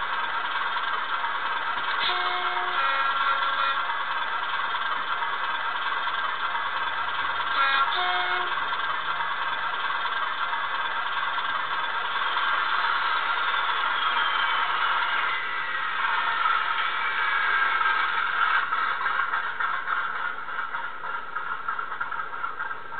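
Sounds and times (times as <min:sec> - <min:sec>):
diesel engine sound through small speaker: 0:00.0 - 0:22.9.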